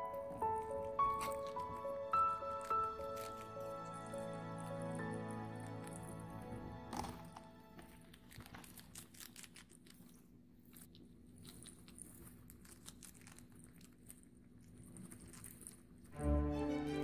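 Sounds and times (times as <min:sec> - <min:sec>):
guinea pigs crunching vegetables: 0:00.0 - 0:16.1.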